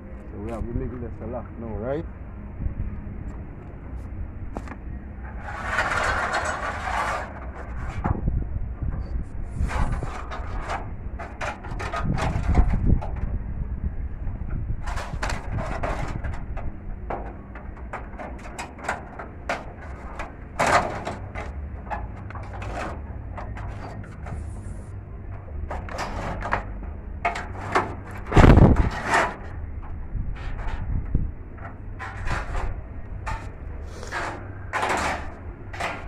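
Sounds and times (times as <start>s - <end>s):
low rumble on microphone: 0.0s - 36.0s.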